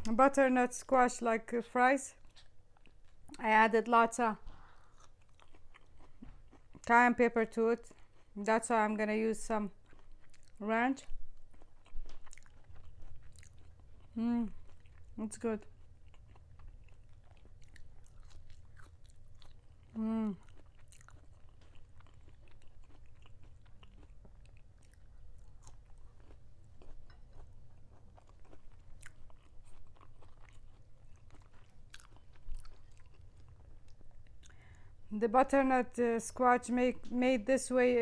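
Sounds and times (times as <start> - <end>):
chewing fries: 2.1 - 3.6, 4.4 - 8.8, 9.5 - 35.0.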